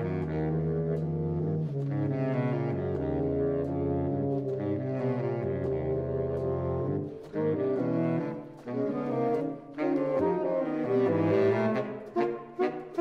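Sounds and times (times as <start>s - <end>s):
saxophone trio playing: 0.0s - 13.0s.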